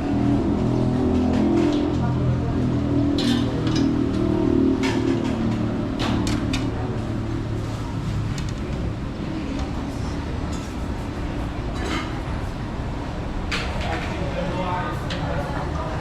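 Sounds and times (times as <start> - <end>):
traffic and room rumble: 0.0 - 16.0.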